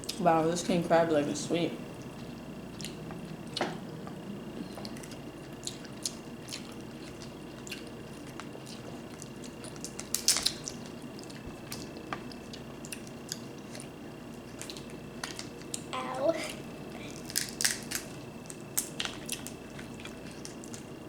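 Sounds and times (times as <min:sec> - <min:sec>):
wet chewing and squishing: 0:02.0 - 0:15.9, 0:17.0 - 0:21.0.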